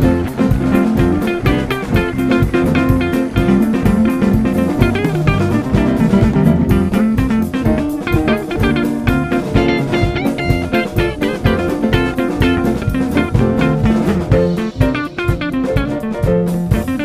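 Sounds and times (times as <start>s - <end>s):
drum kit playing steady beat: 0.0s - 17.0s
guitar: 0.0s - 17.0s.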